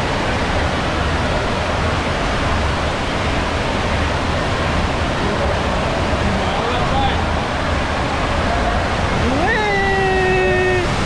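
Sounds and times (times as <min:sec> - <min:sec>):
flowing water roaring: 0:00.0 - 0:11.0.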